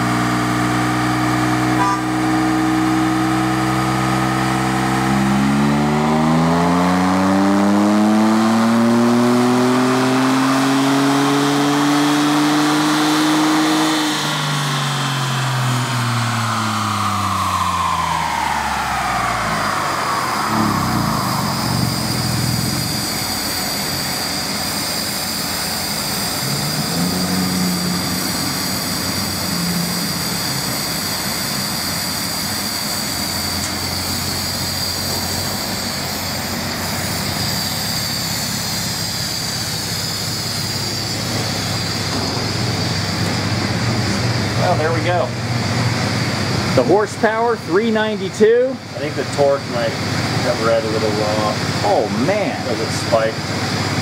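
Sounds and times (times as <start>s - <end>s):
engine revving down on dyno: 0.0s - 54.0s
rushing hum with high whine: 0.0s - 54.0s.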